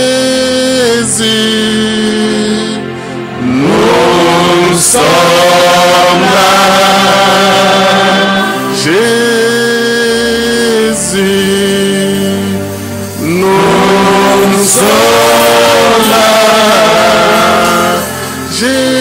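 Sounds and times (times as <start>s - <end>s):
man singing into microphone: 0.0s - 19.0s
sustained backing notes: 0.0s - 19.0s.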